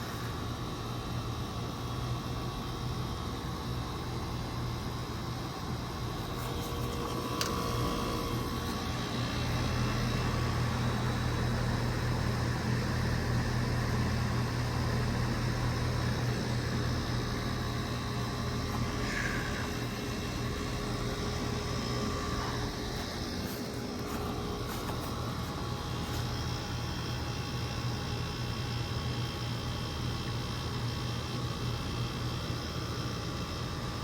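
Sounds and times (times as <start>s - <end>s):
heat pump compressor hum: 0.0s - 34.0s.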